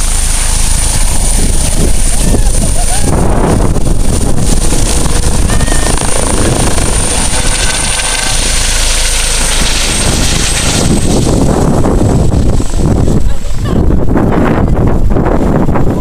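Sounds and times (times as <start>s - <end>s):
helicopter rotor noise: 0.0s - 16.0s
turbine whine: 0.0s - 16.0s.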